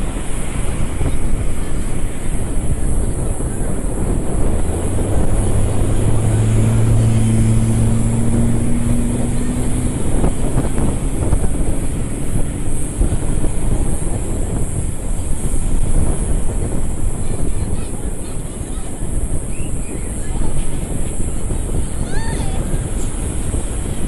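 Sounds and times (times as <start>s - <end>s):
engine hum: 0.0s - 24.0s
low traffic rumble: 0.0s - 24.0s
wind on microphone: 0.0s - 24.0s.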